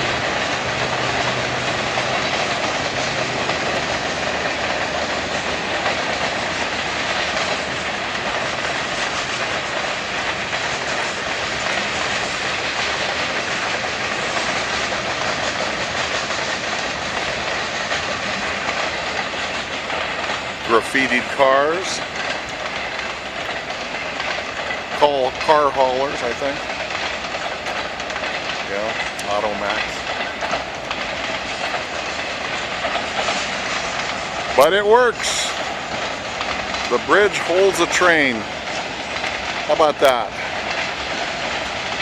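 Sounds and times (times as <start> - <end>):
freight train rumbling past: 0.0 - 42.0.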